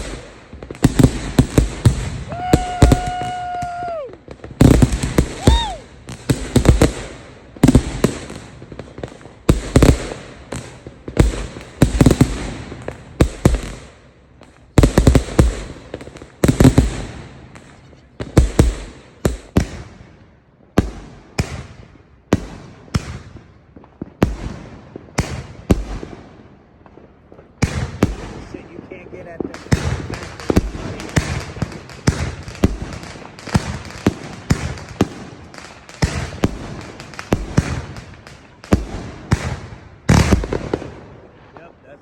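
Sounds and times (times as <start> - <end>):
fireworks bangs: 0.0 - 42.0.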